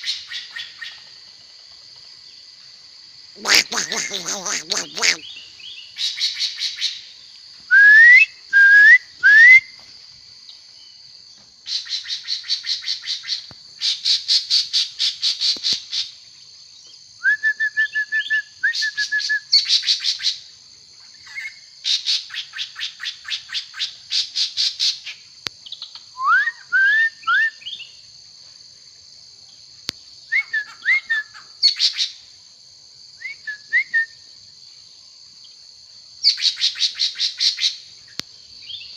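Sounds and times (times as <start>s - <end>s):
songbird singing: 0.0s - 2.6s, 3.4s - 28.2s, 29.4s - 32.3s, 33.1s - 38.9s.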